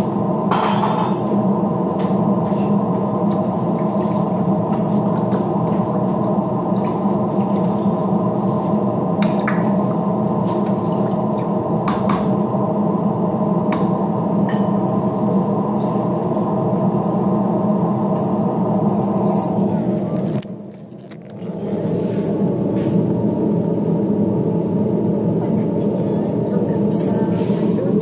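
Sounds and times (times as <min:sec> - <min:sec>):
exhaust fan humming: 0:00.0 - 0:28.0.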